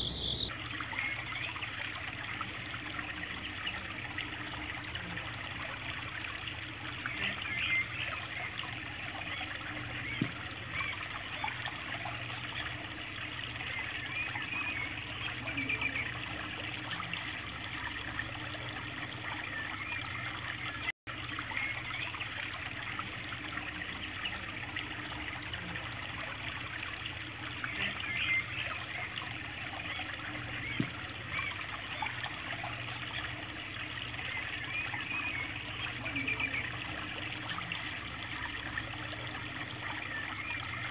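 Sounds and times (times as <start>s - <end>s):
faint low pump hum: 0.0s - 40.9s.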